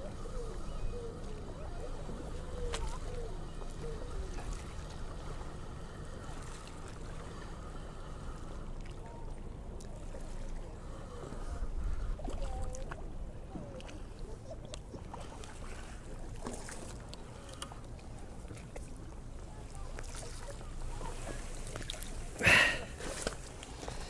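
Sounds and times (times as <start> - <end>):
water lapping: 0.0 - 24.0.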